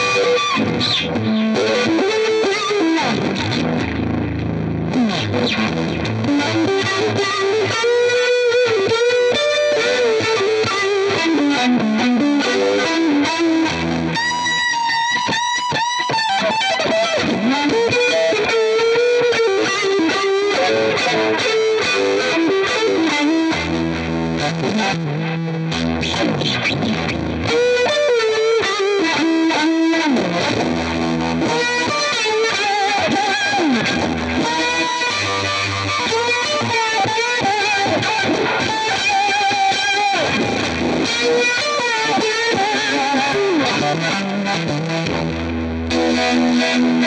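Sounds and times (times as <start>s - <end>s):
distorted electric guitar: 0.0s - 47.0s.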